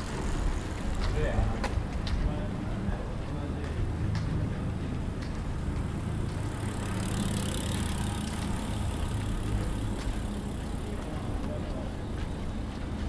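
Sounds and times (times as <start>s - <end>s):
engine humming: 0.0s - 13.0s
street noise: 0.0s - 13.0s.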